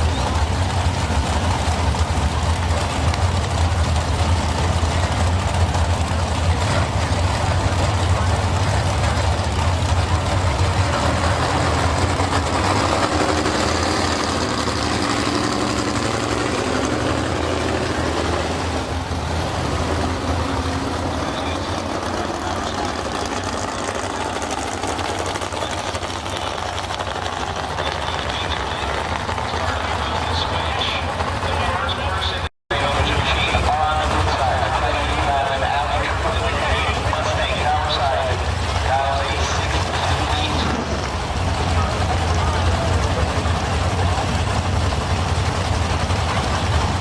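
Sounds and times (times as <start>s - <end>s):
heavy engine idling: 0.0s - 47.0s.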